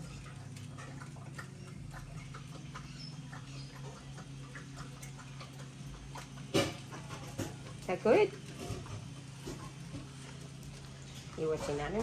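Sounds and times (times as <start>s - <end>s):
dog lapping water from bowl: 0.0s - 12.0s.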